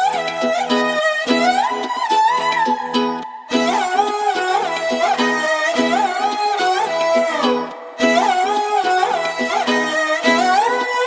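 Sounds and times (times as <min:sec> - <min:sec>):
ornamented held melody: 0:00.0 - 0:11.0
plucked accompaniment: 0:00.0 - 0:11.0.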